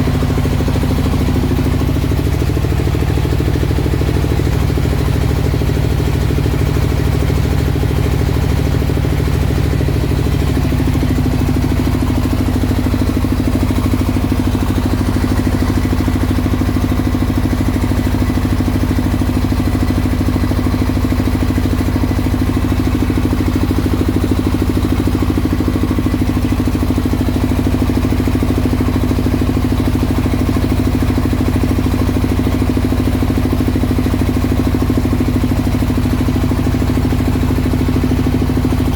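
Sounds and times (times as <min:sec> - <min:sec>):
mill engine running: 0:00.0 - 0:38.9.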